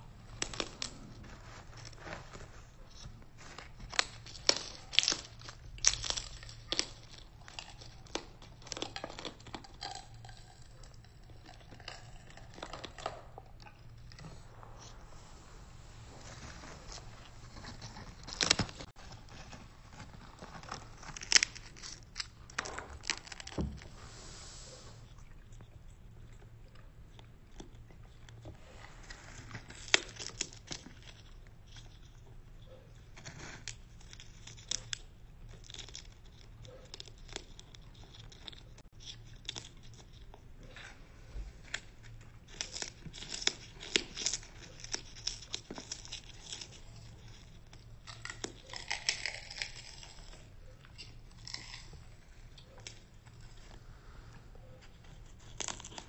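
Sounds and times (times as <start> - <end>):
bird crunching popcorn: 0.0 - 14.9, 16.4 - 23.9, 25.3 - 56.0
paper filter crinkling: 0.0 - 24.0, 27.6 - 56.0.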